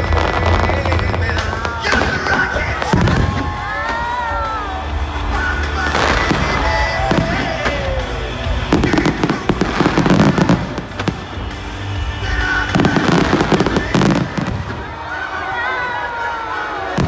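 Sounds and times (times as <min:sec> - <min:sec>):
fireworks crackling bangs: 0:00.0 - 0:17.0
firework shells whistling: 0:00.1 - 0:15.1.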